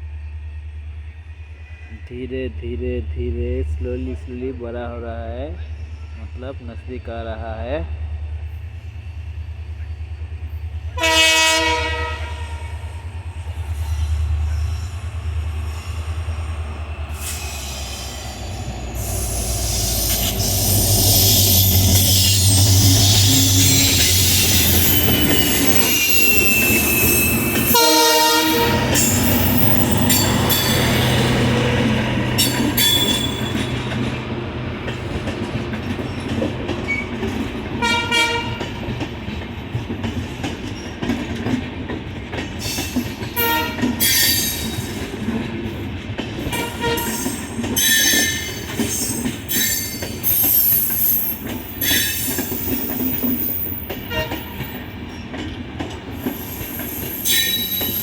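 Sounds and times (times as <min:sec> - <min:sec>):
train wheels clattering on rails: 0:09.8 - 0:58.0.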